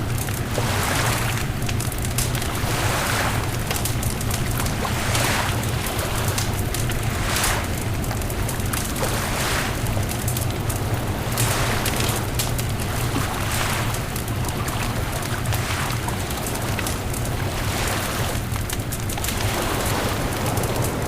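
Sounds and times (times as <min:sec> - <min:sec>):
bonfire crackling: 0:00.0 - 0:21.0
surf washing: 0:00.0 - 0:21.0.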